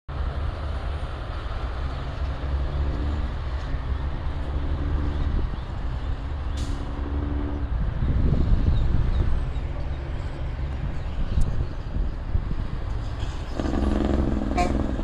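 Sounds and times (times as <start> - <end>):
highway traffic rumble: 0.1 - 15.0
truck engine drone: 0.1 - 15.0.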